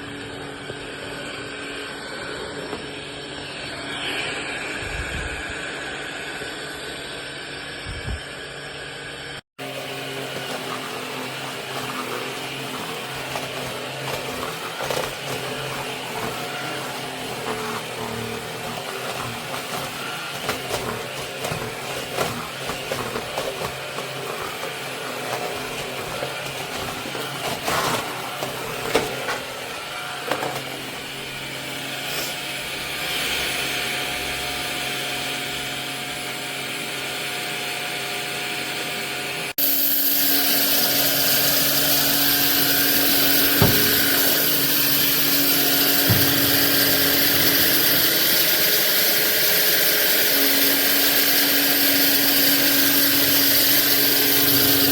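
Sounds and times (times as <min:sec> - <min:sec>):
stick vacuum running: 0:00.0 - 0:54.9.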